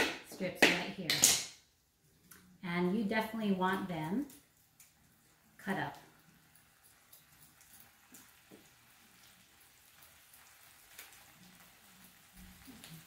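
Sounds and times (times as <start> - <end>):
faint sizzle from skillet: 2.0 - 13.0.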